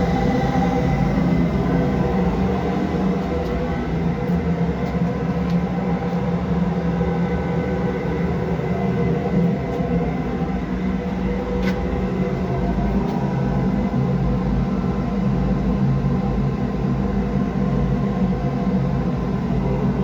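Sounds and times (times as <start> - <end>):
steam boiler burner hum: 0.0 - 20.0.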